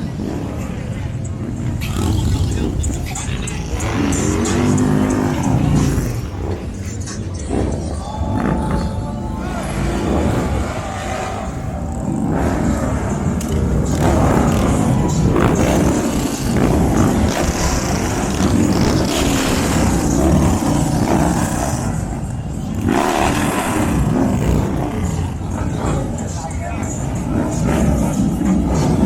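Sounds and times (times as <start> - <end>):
motorcycle engines running: 0.0 - 29.0.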